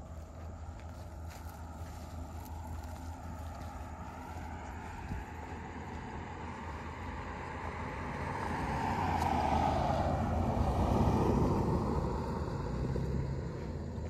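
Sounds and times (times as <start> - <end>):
road vehicle driving past: 0.0 - 14.0.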